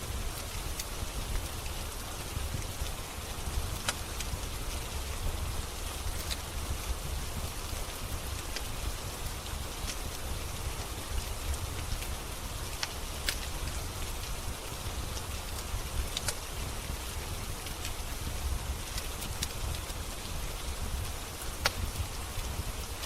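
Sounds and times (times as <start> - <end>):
steady rain: 0.0 - 23.0
wood fire crackling: 0.0 - 23.0.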